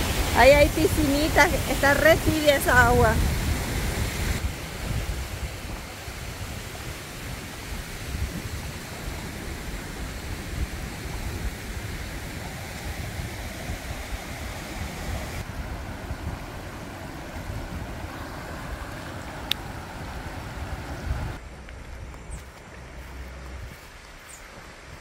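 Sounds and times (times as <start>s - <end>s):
river water running over rocks: 0.0s - 25.0s
wind rumble on microphone: 0.0s - 25.0s.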